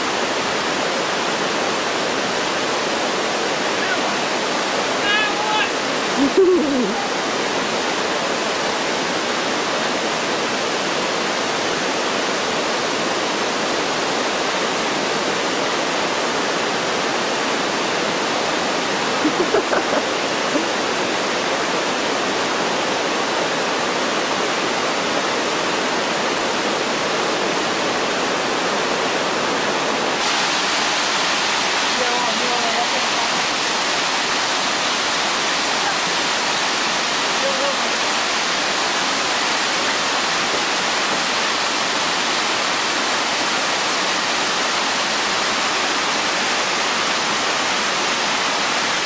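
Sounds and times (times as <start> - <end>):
stream water rushing over rocks: 0.0 - 49.0.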